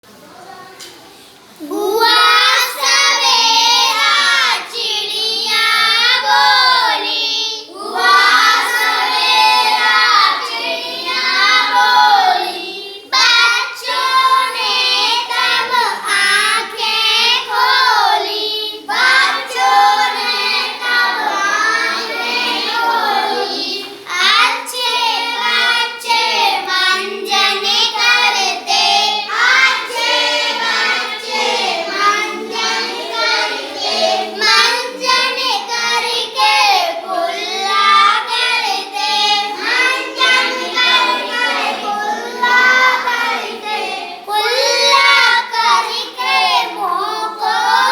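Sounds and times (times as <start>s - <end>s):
child singing unaccompanied: 1.6s - 47.9s.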